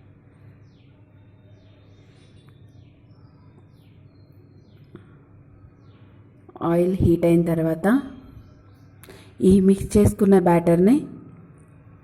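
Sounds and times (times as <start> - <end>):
faint bird chirping: 0.0 - 12.0
low steady hum: 0.0 - 12.0.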